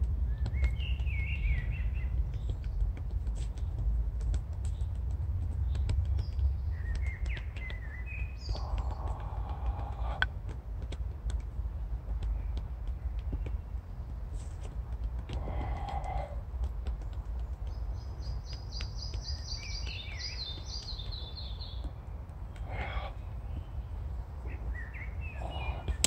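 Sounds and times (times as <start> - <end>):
wooden sticks tapping on body: 0.0 - 26.0
birds chirping: 0.1 - 26.0.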